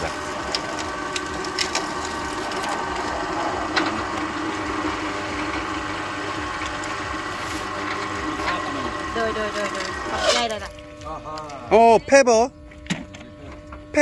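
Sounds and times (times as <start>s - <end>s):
sugarcane cracking: 0.0s - 11.6s
sugarcane juicer motor running: 0.0s - 14.0s.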